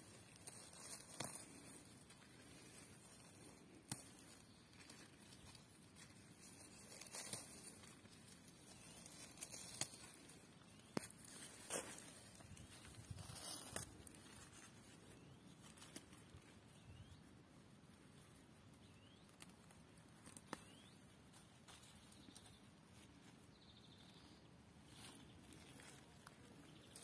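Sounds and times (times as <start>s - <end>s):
small clicks and rustles: 0.0s - 16.6s, 17.9s - 23.4s.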